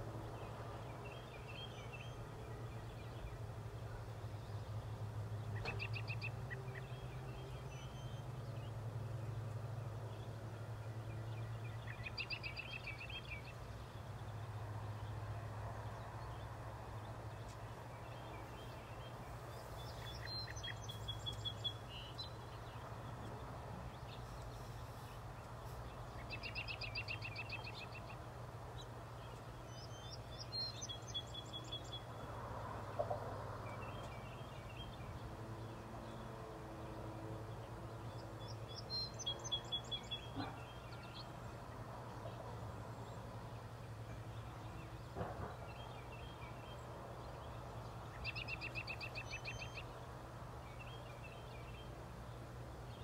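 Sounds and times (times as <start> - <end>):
low outdoor hum: 0.0 - 53.0
songbirds singing: 0.0 - 53.0.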